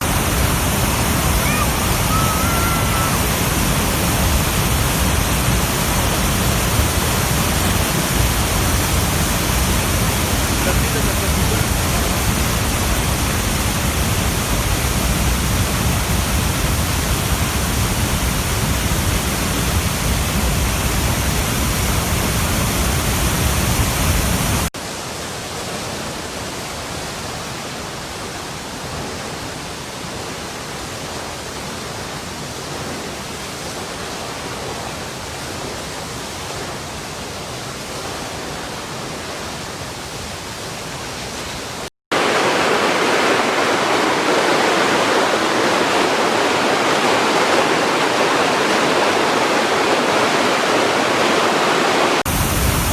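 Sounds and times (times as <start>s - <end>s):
water rushing: 0.0s - 52.9s.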